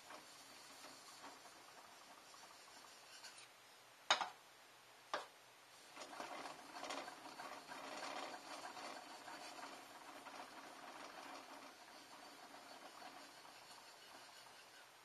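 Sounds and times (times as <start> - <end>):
knife scraping on whetstone: 0.0 - 3.5, 5.9 - 14.9.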